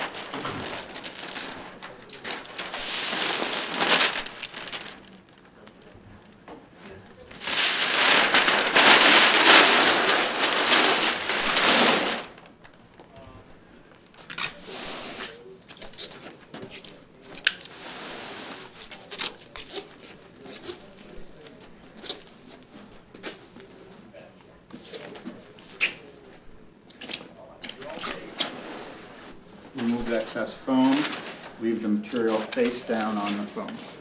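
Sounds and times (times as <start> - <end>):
packing paper rustling: 0.0 - 17.9, 18.5 - 23.6, 24.7 - 34.0
soft rustle of material: 0.0 - 34.0.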